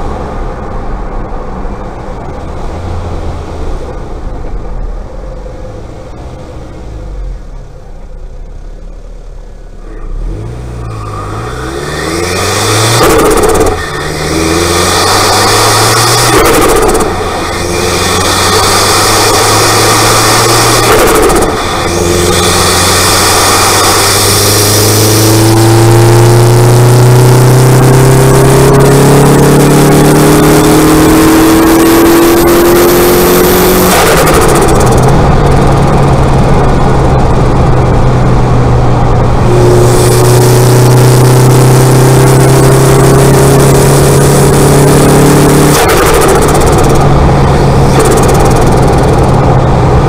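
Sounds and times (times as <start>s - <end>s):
turbocharged car engine revving: 0.0s - 50.0s.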